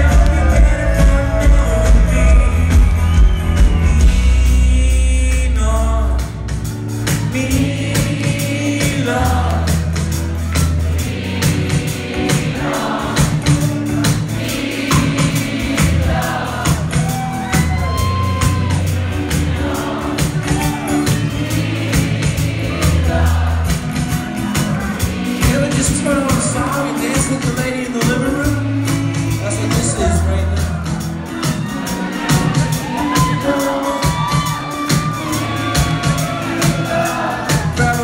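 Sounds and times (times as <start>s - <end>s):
lead vocalist singing: 0.0s - 38.0s
live rock band playing: 0.0s - 38.0s.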